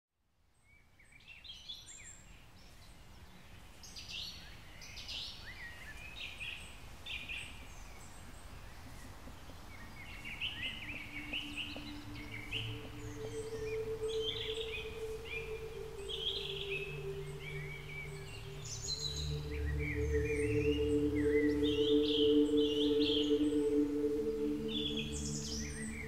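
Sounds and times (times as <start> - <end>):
small birds singing and chirping: 0.5 - 26.0.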